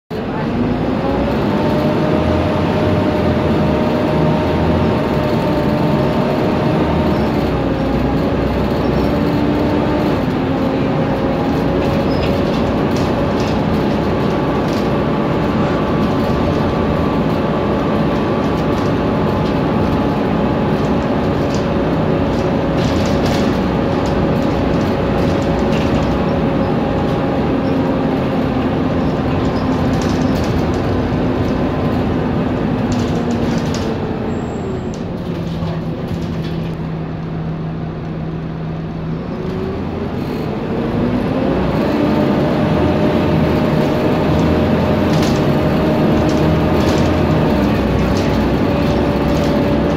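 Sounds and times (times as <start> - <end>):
bus engine and drivetrain whine: 0.1 - 49.9
road noise: 0.1 - 49.9.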